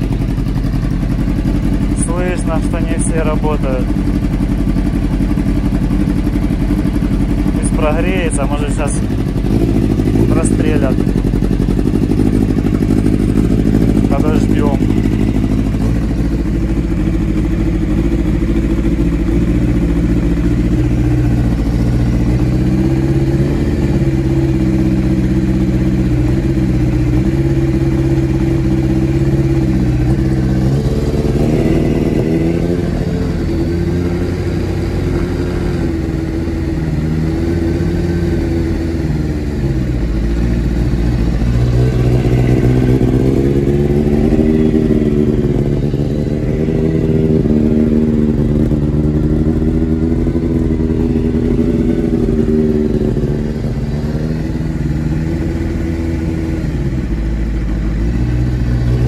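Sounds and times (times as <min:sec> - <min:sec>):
motorcycle engine running unevenly: 0:00.0 - 0:59.0.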